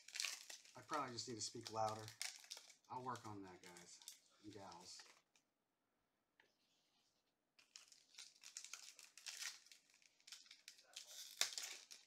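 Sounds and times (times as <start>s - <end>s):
foil wrapper crinkling: 0.0s - 5.4s, 7.6s - 12.0s.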